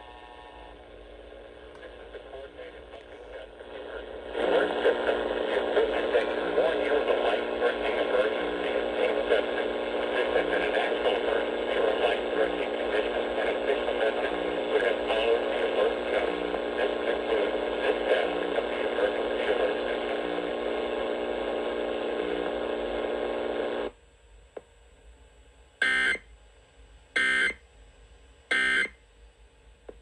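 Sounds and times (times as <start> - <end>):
radio broadcast test audio: 0.0 - 23.9, 25.8 - 26.2, 27.2 - 27.6, 28.5 - 28.9.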